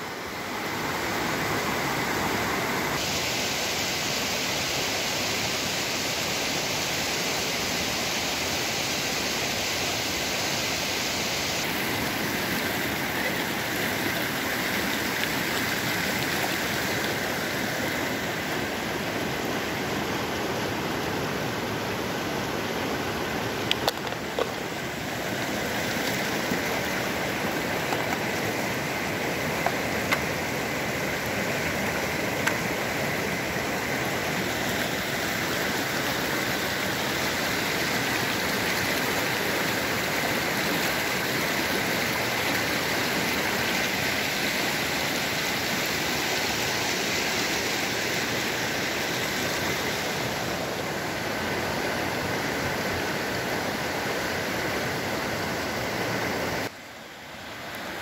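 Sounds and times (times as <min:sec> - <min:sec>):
rushing mountain stream: 0:00.0 - 0:58.0.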